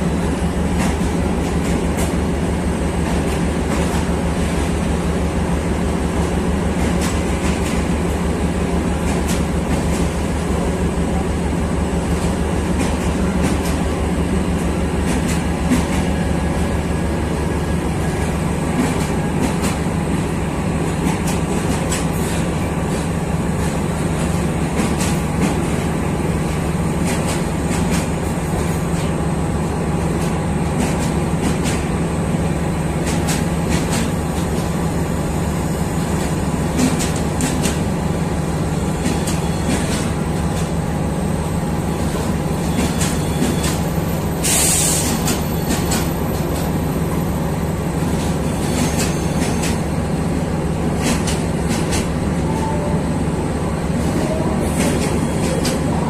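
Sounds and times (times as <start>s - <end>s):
train coaches rolling: 0.0s - 56.0s.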